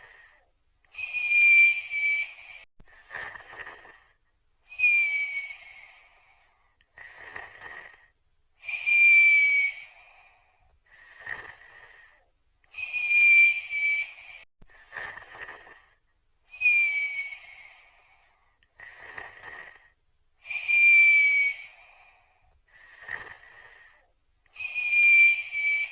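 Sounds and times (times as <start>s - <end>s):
person snoring with a whistle: 0.0s - 16.0s, 16.6s - 25.9s.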